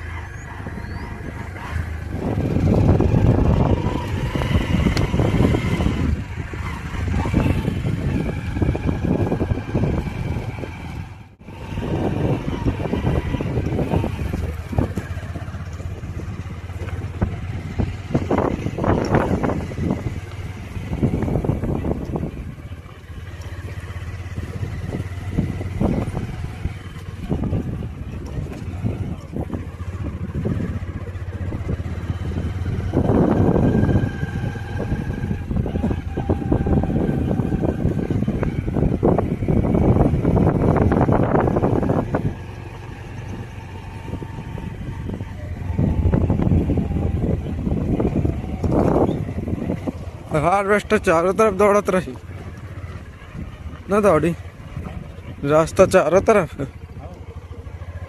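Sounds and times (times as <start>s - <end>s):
gusts of noise: 0.0s - 16.4s, 17.2s - 22.6s, 24.0s - 51.1s
motor vehicle rumble: 0.0s - 58.0s.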